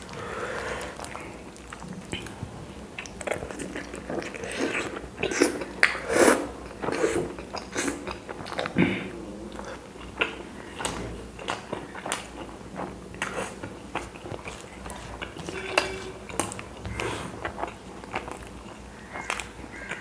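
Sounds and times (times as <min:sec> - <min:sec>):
person chewing with mouth clicks: 0:00.0 - 0:20.0.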